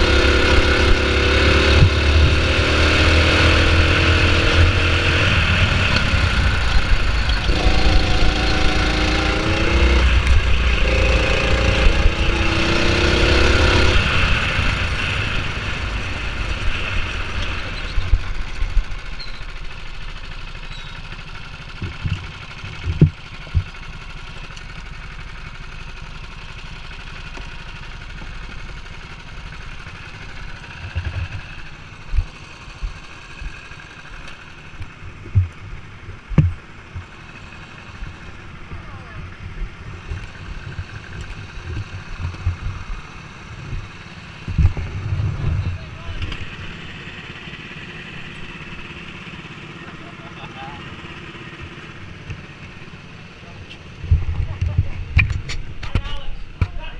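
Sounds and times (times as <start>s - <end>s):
go-kart engine: 0.0s - 56.9s.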